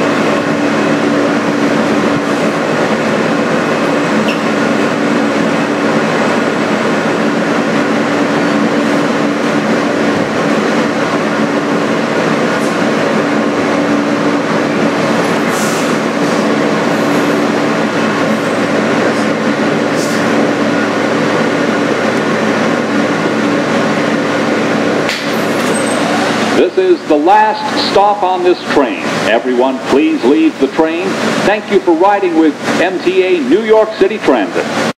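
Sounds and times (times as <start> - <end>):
subway car interior hum: 0.0 - 34.9.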